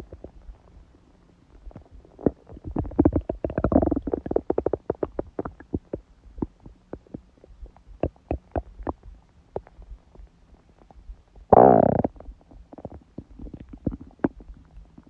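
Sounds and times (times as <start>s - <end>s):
stomach gurgling: 0.0s - 0.8s, 1.4s - 15.0s.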